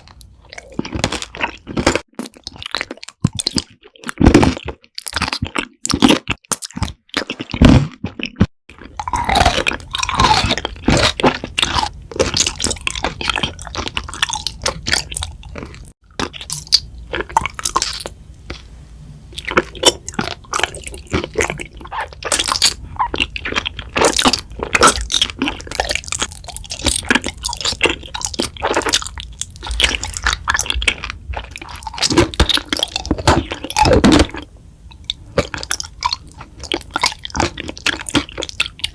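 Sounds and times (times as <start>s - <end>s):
crunching and chewing: 0.0s - 18.7s, 19.3s - 38.9s.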